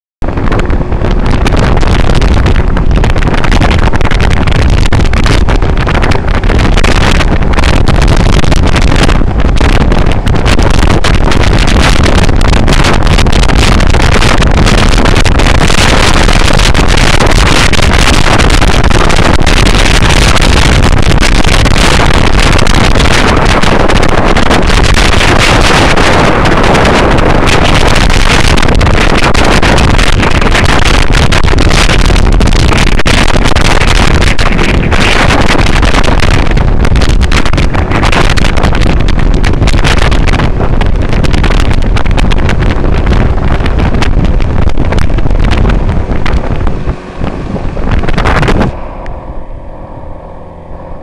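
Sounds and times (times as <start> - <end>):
boat rushing across water: 0.2 - 51.0
wind noise on microphone: 0.2 - 51.0.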